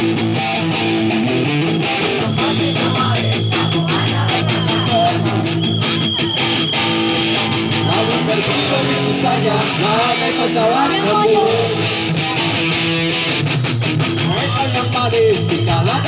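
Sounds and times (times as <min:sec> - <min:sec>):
live rock band playing: 0:00.0 - 0:16.0
steady drum beat: 0:00.0 - 0:16.0.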